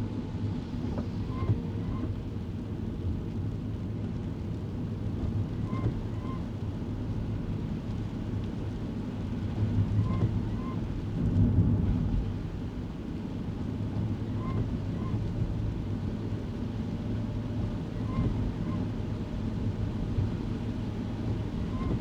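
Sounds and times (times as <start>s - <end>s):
engine and tyre rumble: 0.0s - 22.0s.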